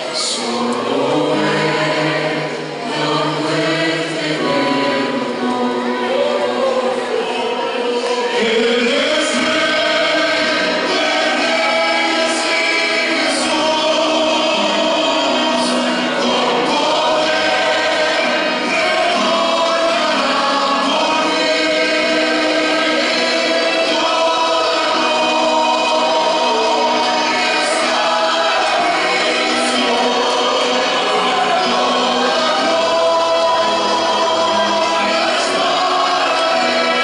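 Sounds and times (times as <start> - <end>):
mixed choir singing a hymn: 0.0 - 37.0.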